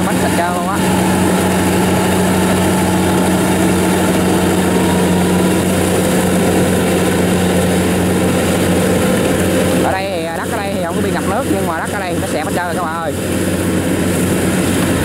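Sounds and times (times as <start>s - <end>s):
combine harvester engine drone: 0.0s - 15.0s
machinery rattling: 0.0s - 15.0s.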